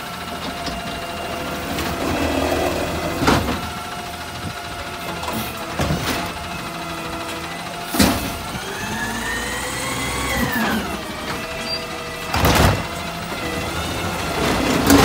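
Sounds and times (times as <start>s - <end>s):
garbage truck engine running: 0.0s - 15.0s.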